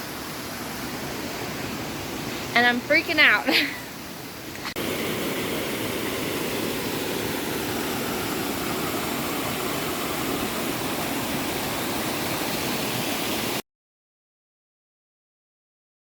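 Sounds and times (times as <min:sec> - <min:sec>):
creek and small waterfalls rushing: 0:00.0 - 0:13.6.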